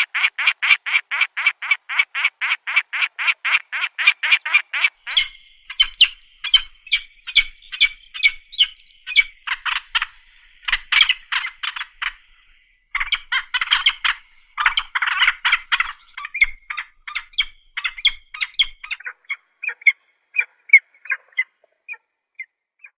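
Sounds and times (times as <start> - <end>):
falcon calling rapidly: 0.0 - 22.0.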